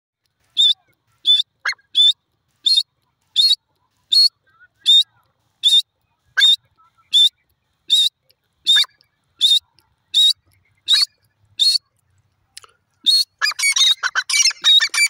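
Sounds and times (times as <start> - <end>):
bird calling sharp notes: 0.4 - 11.9, 13.0 - 15.0.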